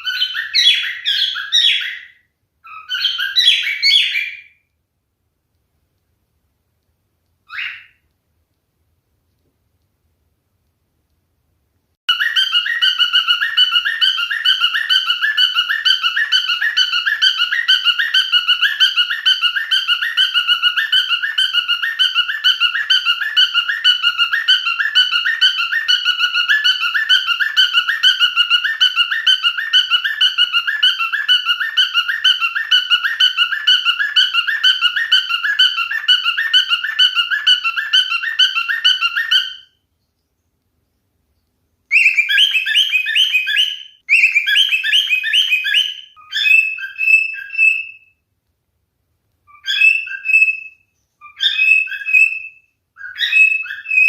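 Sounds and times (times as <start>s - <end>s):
cockatiel whistling: 0.0s - 4.6s, 7.5s - 8.0s, 12.1s - 39.8s, 41.9s - 48.2s, 49.4s - 54.0s.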